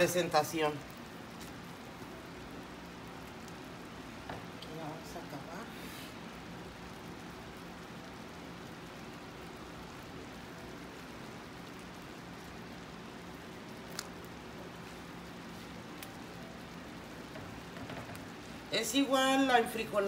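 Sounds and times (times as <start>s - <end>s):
sauce simmering and bubbling: 0.2s - 19.8s.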